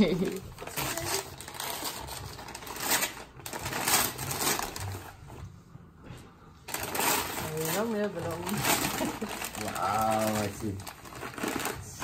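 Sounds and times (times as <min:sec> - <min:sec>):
wrapping paper rustling and tearing: 0:00.0 - 0:05.3, 0:06.7 - 0:12.0.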